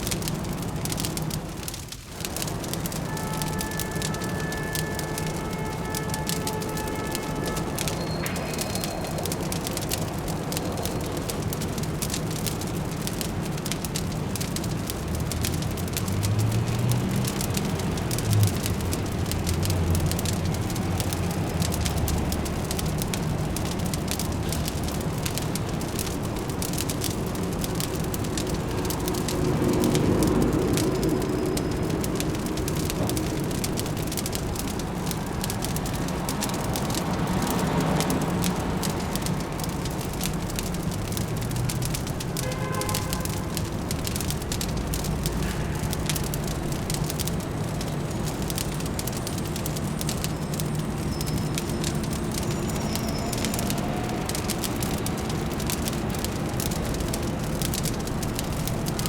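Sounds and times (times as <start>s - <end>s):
distant city traffic hum: 0.0s - 59.0s
wood fire crackling: 0.0s - 59.0s.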